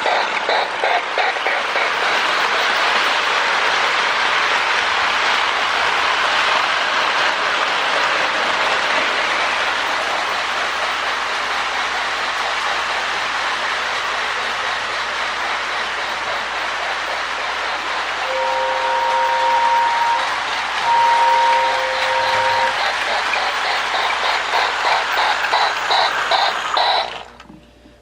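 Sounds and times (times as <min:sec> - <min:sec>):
model steam locomotive chuffing hiss: 0:00.0 - 0:27.4.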